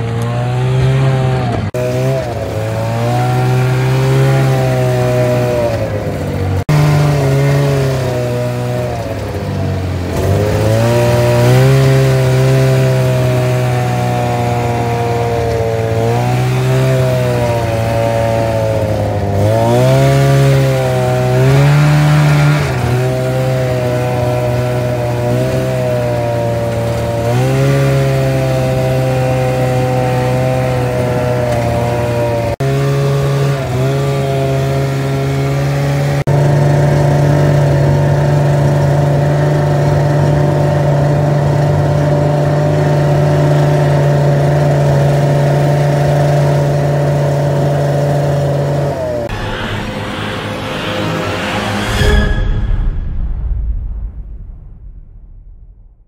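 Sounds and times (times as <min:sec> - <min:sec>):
snowmobile engine revving: 0:00.0 - 0:52.2.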